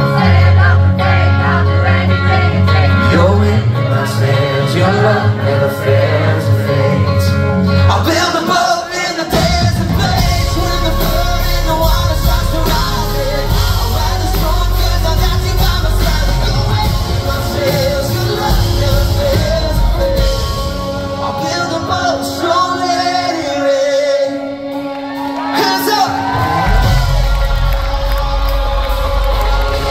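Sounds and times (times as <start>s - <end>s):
live pop-rock band: 0.0s - 29.9s
man singing into microphone: 2.2s - 29.9s.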